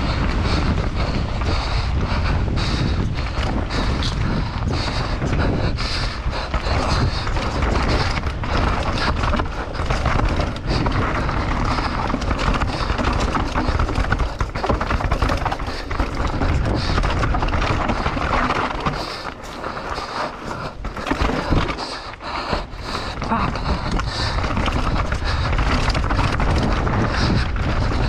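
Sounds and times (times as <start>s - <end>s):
bike clattering and rattling: 0.0s - 28.0s
bike tyres rolling and skidding: 0.0s - 28.0s
wind rushing over microphone: 0.0s - 28.0s.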